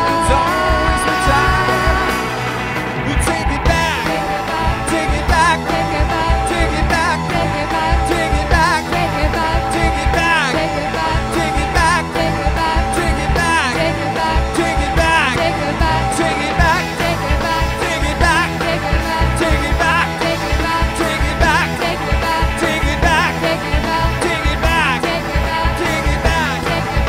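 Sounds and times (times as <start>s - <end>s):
drum kit: 0.0s - 27.0s
electric bass: 0.0s - 27.0s
electric guitar: 0.0s - 27.0s
man singing lead: 0.0s - 27.0s
stage keyboard: 0.0s - 27.0s.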